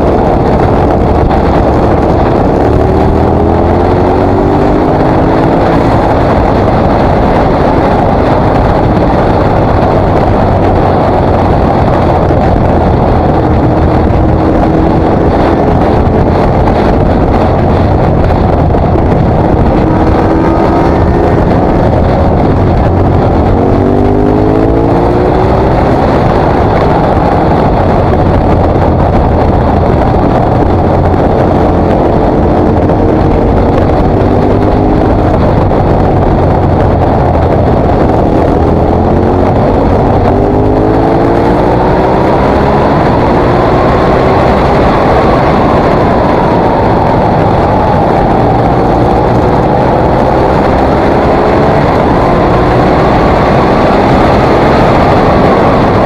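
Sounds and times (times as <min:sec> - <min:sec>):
motorcycle engine accelerating: 0:00.0 - 0:56.0
wind noise on microphone: 0:00.0 - 0:56.0.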